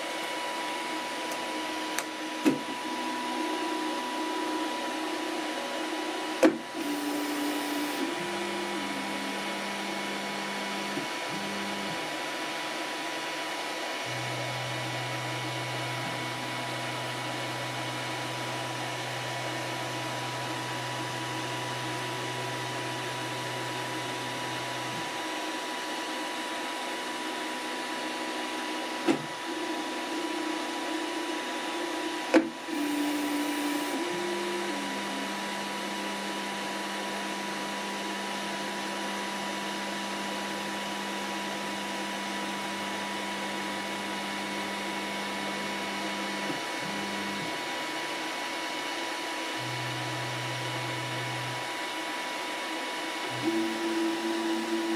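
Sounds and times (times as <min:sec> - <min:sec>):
fans whirring: 0:00.0 - 0:40.0, 0:45.6 - 0:54.9.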